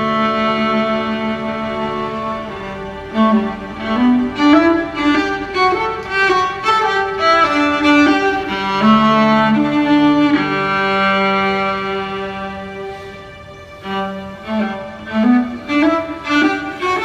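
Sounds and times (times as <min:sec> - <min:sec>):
low cello notes: 0:00.0 - 0:17.0
violin melody: 0:00.0 - 0:17.0.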